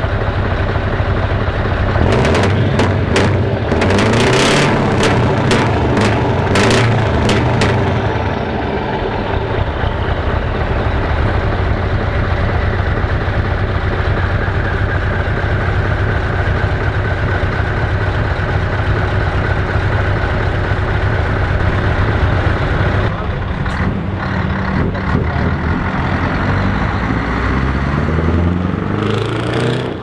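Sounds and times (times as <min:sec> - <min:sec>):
diesel engine idling loudly: 0:00.0 - 0:30.0.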